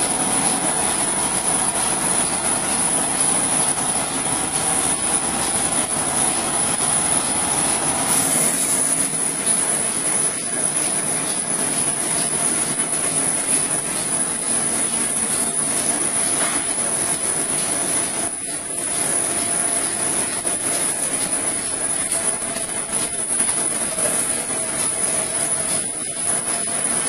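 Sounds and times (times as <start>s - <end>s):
machine whirring with high whine: 0.0s - 27.0s.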